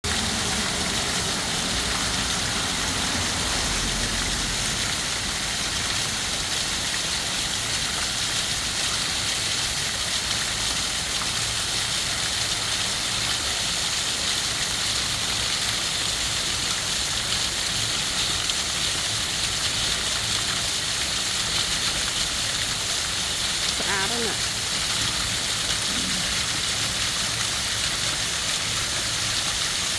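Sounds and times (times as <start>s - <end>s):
water rushing: 0.0s - 29.9s.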